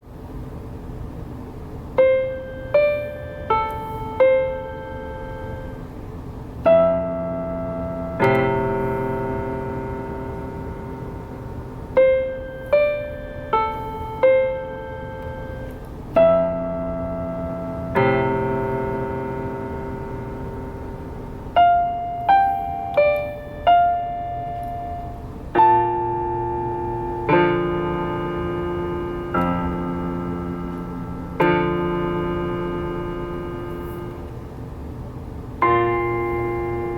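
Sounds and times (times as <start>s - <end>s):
steady background hiss: 0.0s - 36.9s
slow piano melody: 1.9s - 36.9s.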